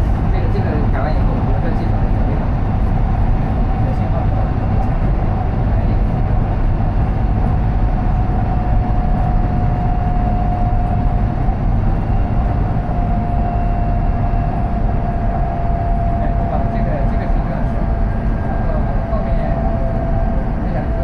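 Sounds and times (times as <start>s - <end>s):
train rumble and rush: 0.0s - 21.0s
train whine: 0.0s - 21.0s.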